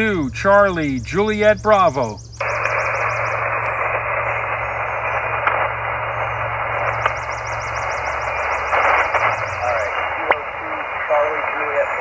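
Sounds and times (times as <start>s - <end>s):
low hum: 0.0s - 12.0s
radio static hiss: 0.0s - 12.0s.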